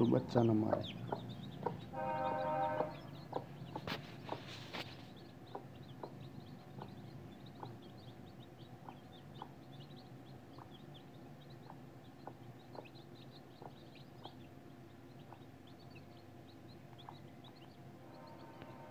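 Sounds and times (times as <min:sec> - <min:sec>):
chicks peeping: 0:00.0 - 0:18.9.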